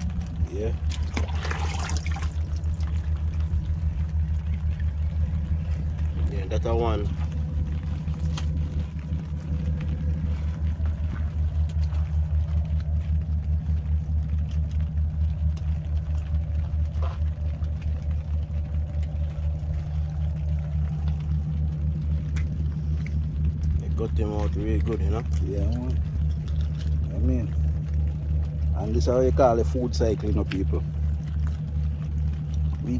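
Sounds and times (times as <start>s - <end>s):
vehicle engine idling: 0.0s - 32.9s.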